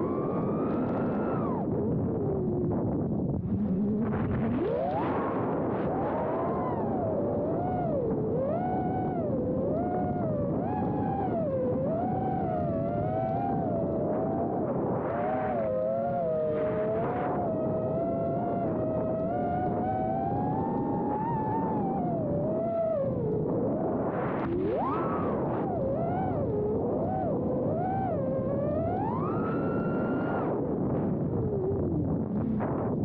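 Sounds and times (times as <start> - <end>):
wind rush: 0.0 - 33.0
drone motors whining: 3.4 - 32.9.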